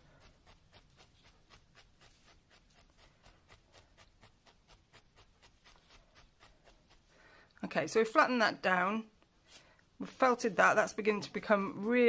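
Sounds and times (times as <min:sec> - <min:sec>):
felting needle jabbing wool: 0:00.0 - 0:12.0.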